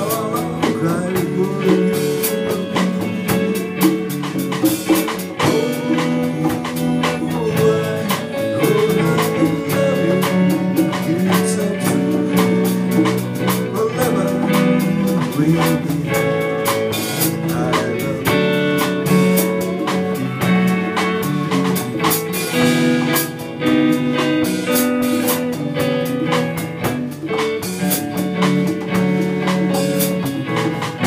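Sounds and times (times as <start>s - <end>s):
band music: 0.0s - 31.0s
drum kit beat: 0.0s - 31.0s
guitar: 0.0s - 31.0s.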